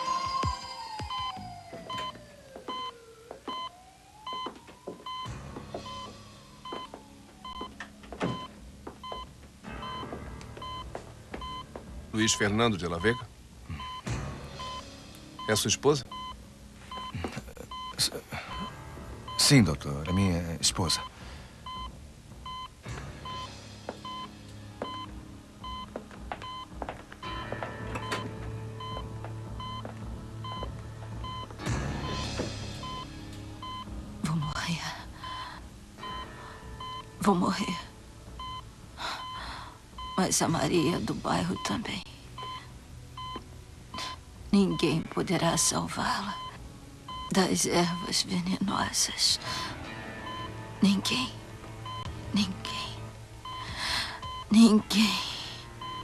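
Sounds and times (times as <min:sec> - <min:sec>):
heart monitor beeping: 0:00.0 - 0:35.4, 0:36.0 - 0:37.8, 0:38.4 - 0:48.6, 0:50.3 - 0:51.2, 0:51.8 - 0:52.8, 0:53.4 - 0:56.0.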